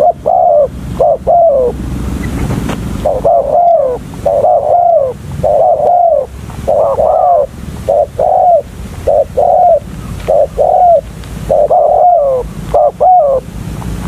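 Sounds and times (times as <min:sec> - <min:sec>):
dove cooing: 0:00.0 - 0:13.5.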